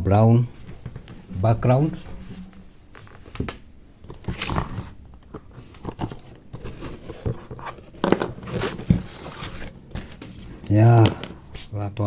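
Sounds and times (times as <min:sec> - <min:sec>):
objects rustling on a workbench: 0:00.6 - 0:11.7.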